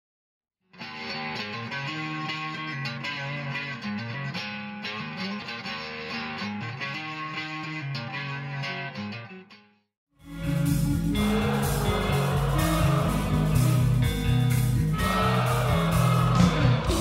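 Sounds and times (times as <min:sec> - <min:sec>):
guitar picked melody: 0:00.7 - 0:17.0.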